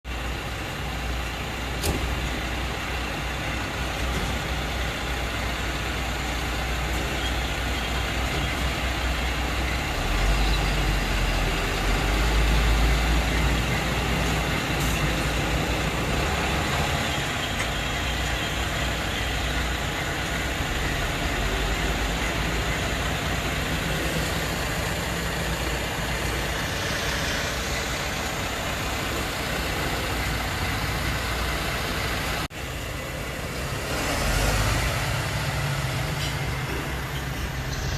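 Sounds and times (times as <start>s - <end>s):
diesel truck engines rumbling: 0.1s - 37.9s.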